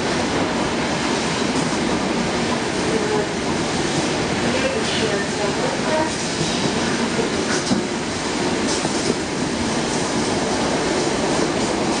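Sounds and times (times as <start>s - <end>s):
train wheels rumbling on rails: 0.0s - 12.0s
wheels clacking on track: 1.2s - 12.0s.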